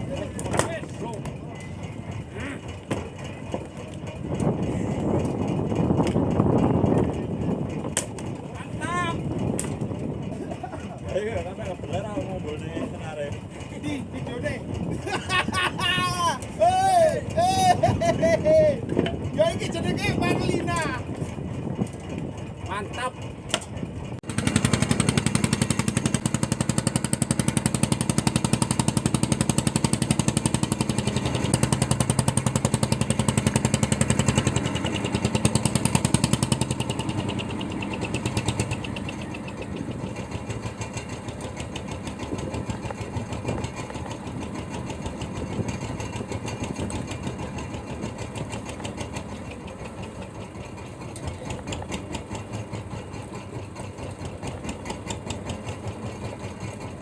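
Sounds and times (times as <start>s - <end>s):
boat engine pulsing: 0.0s - 57.0s.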